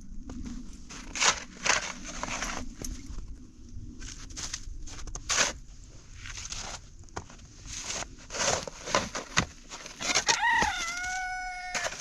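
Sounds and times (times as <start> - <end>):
footsteps crunching through snow: 0.2 - 3.3, 4.0 - 12.0.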